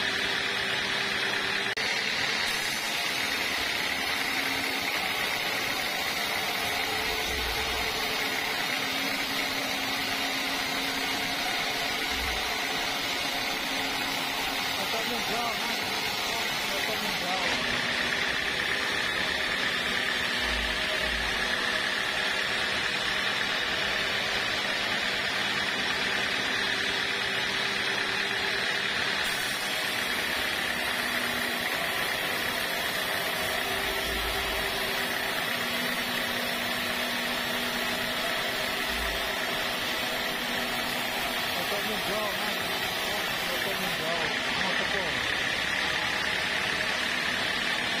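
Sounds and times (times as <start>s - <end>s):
band saw cutting log: 0.0s - 48.0s.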